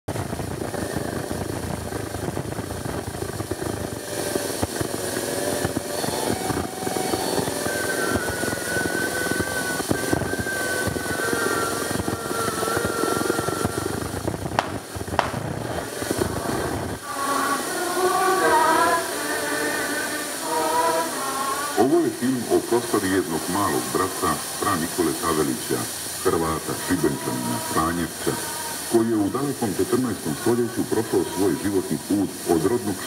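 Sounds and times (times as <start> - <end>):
old film crackle and hiss: 0.1 - 33.0.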